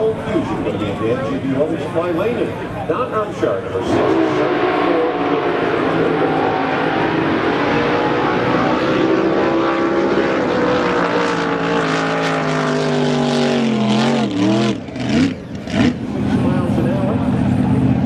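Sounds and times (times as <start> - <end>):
racing boat engine at high revs: 0.0 - 18.0.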